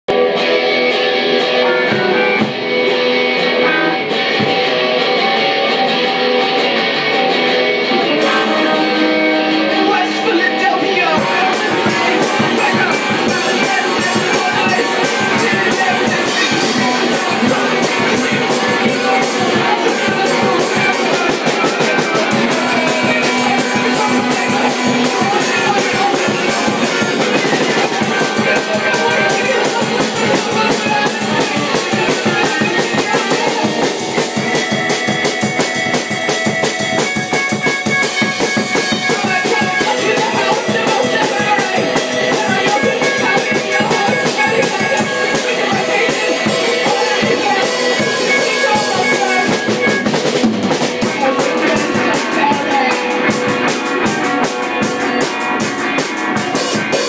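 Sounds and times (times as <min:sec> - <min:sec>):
drum kit beat: 0:00.1 - 0:57.0
electric guitar chords: 0:00.1 - 0:57.0.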